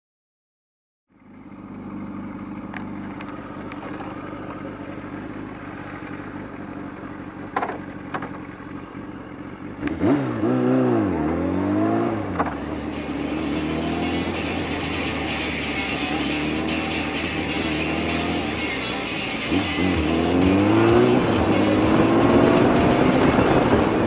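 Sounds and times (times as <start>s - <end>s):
motorcycle engine idling and revving: 1.1s - 24.0s.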